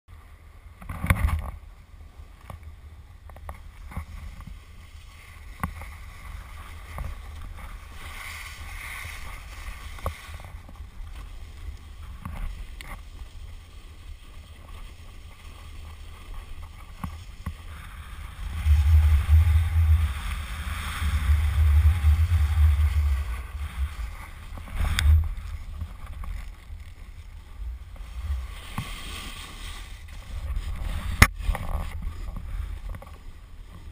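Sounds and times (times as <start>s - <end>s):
wind rumbling on microphone: 0.1s - 33.9s
snowboard scraping over snow: 3.6s - 33.9s.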